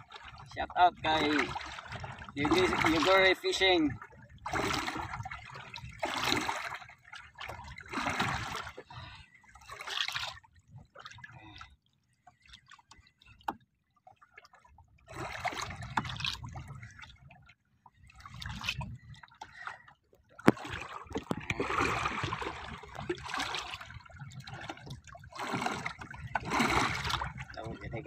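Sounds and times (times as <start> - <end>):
water sloshing around boat: 0.0 - 28.0.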